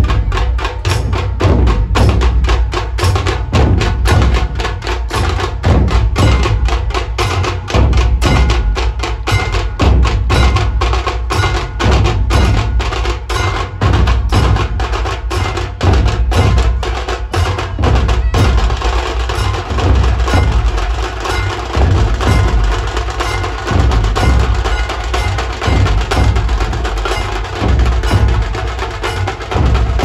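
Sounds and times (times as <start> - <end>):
barrel drums beating heavy rhythm: 0.0 - 30.0
rapid sharp drum strokes: 0.0 - 30.0.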